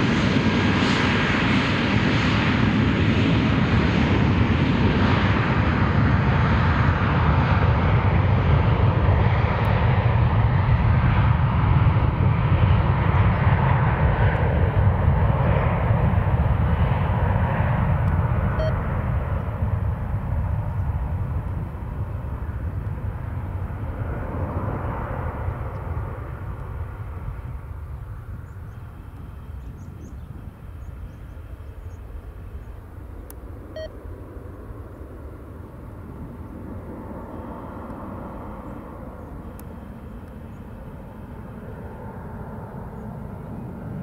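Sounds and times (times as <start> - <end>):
jet engines taking off: 0.0 - 44.0.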